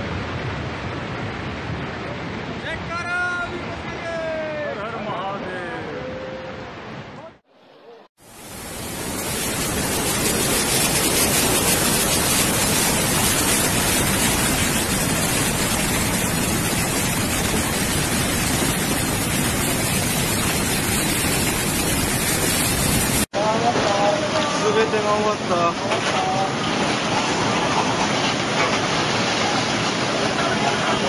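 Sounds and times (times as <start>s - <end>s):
river torrent rushing: 0.0s - 7.6s, 8.2s - 31.0s.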